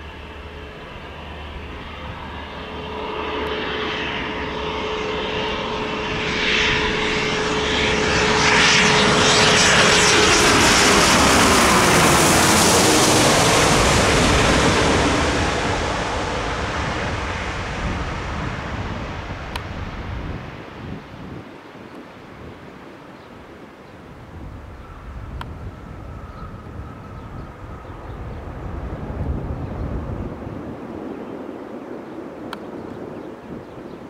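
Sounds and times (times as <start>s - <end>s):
jet engine rush: 0.0s - 34.0s
jet engine whine: 0.0s - 34.0s.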